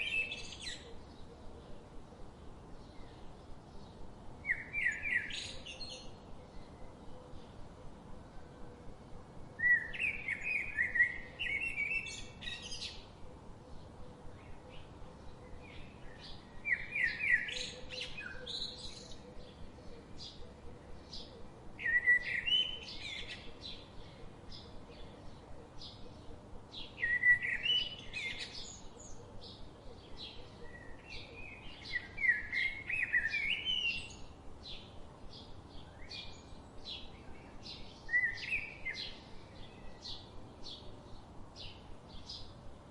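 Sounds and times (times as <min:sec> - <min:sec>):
birds chirping faintly: 0:00.0 - 0:42.9.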